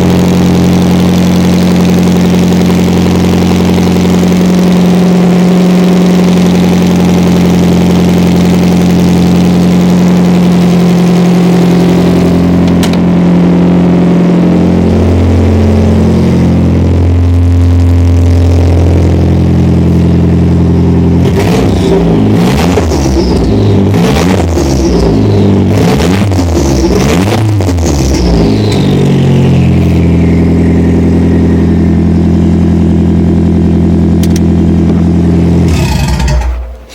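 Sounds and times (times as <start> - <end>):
car exhaust droning: 0.0 - 36.9.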